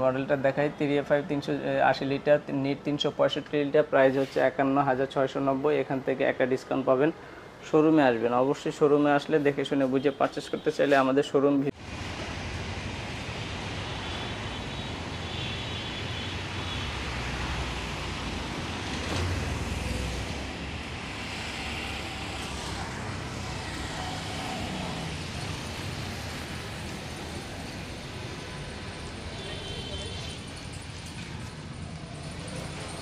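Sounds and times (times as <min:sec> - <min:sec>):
road traffic hum: 0:00.0 - 0:33.0.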